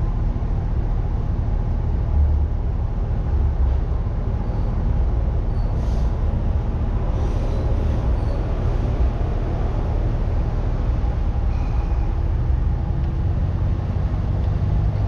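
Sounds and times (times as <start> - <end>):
city street traffic rumble: 0.0 - 15.0.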